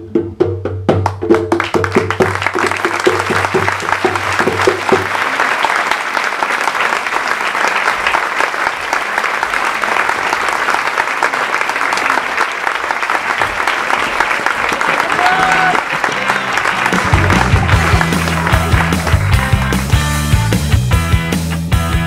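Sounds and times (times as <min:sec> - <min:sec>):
audience applauding: 0:01.0 - 0:20.5.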